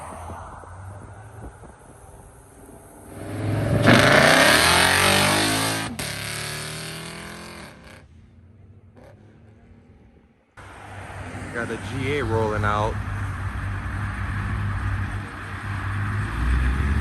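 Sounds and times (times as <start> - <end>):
car accelerating hard: 0.0 - 8.1, 11.2 - 17.0.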